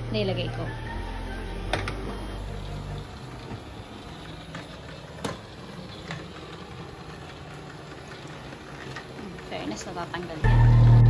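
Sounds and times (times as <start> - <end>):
robot vacuum cleaner whirring: 0.8 - 11.0.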